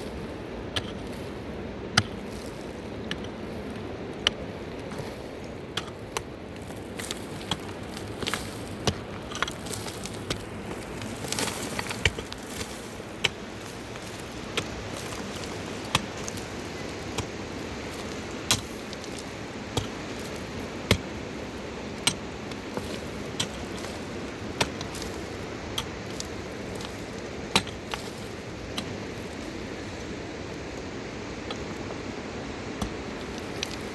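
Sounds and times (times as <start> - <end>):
steady rushing noise: 0.0 - 33.9.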